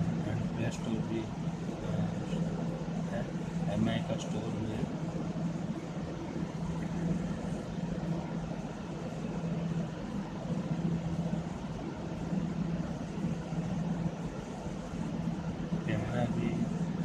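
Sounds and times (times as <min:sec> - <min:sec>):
continuous rumble: 0:00.0 - 0:17.0
low mechanical hum: 0:00.0 - 0:17.0.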